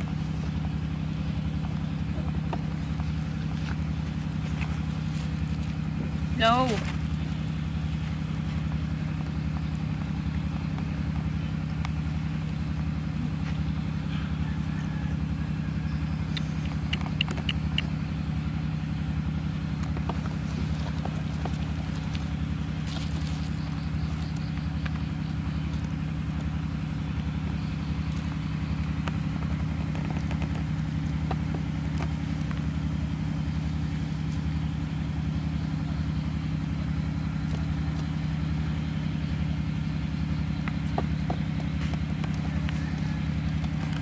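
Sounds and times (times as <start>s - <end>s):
pulsing low motor drone: 0.0s - 44.0s.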